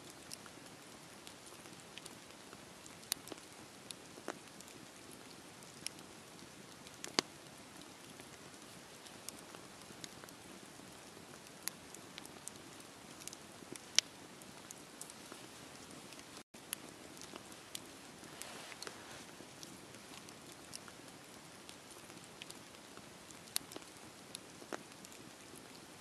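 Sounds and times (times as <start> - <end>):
logs crackling and popping: 0.1 - 26.0
wood fire hissing: 0.4 - 25.6.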